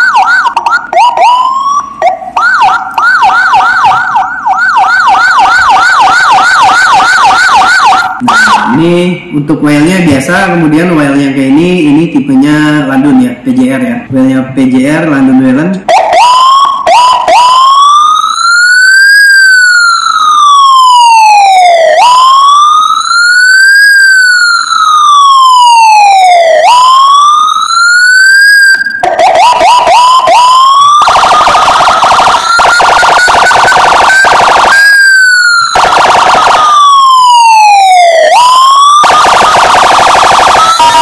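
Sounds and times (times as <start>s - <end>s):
electronic siren wailing: 0.0s - 9.0s, 15.9s - 41.0s.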